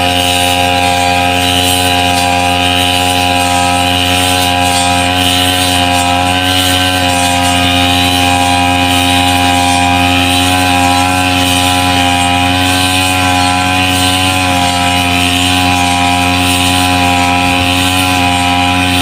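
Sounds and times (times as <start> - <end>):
brush cutter engine droning: 0.0 - 19.0.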